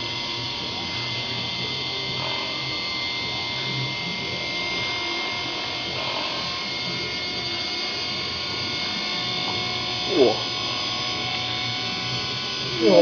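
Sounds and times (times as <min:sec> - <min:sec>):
small electric motor whine: 0:00.0 - 0:13.0.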